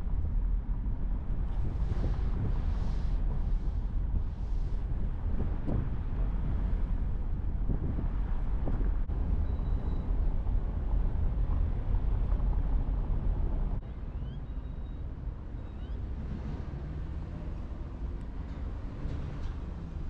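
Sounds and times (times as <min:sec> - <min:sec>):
car wind and road noise: 0:00.0 - 0:20.0.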